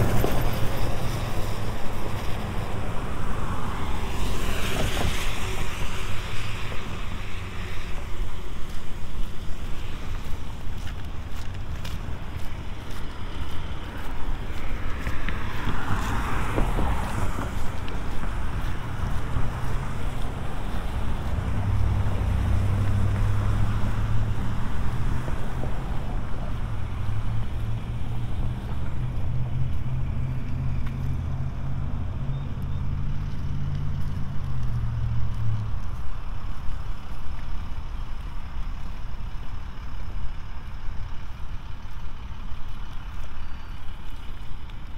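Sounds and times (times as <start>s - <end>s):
background traffic: 0.0s - 44.9s
tyres hissing on wet road: 0.0s - 44.9s
vehicle engine humming: 0.0s - 44.9s.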